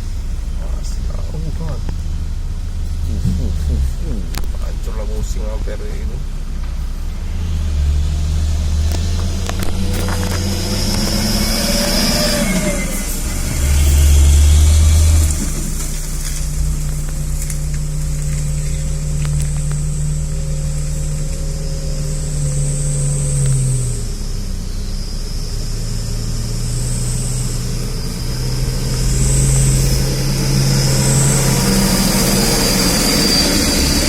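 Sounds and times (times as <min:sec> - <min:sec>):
loud low rumble: 0:00.0 - 0:34.0
truck engine under load: 0:00.0 - 0:34.0.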